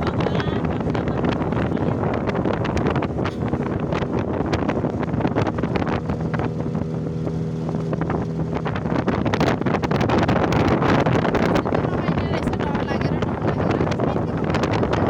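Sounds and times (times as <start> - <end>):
boat motor hum: 0.0 - 15.0
water splashing against boat: 0.0 - 15.0
wind buffeting microphone: 0.0 - 15.0.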